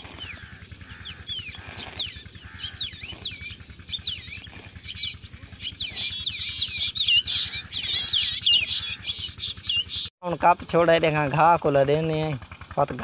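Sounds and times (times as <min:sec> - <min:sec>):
birds chirping and whistling: 0:00.0 - 0:12.3.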